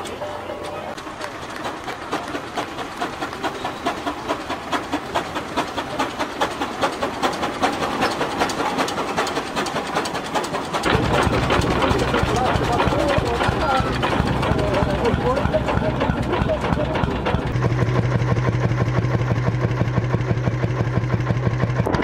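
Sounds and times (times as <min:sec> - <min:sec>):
steam engine exhaust chuffing: 0:00.1 - 0:22.0.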